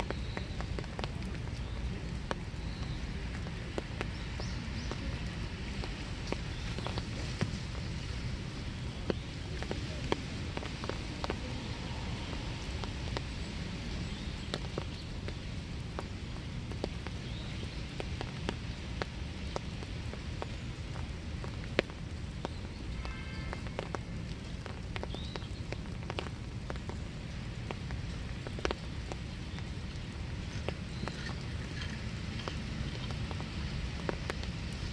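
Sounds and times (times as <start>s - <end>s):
rain drops ticking on surfaces: 0.0s - 34.9s.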